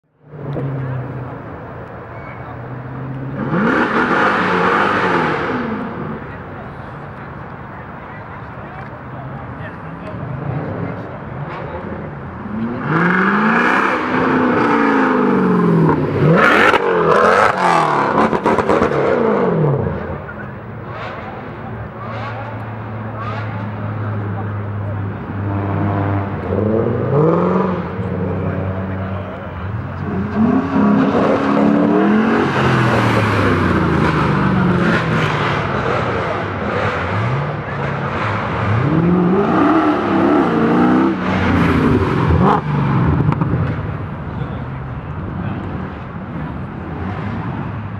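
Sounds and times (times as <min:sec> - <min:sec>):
car engine revving: 0:02.4 - 0:47.9
exhaust rushing: 0:03.2 - 0:47.9.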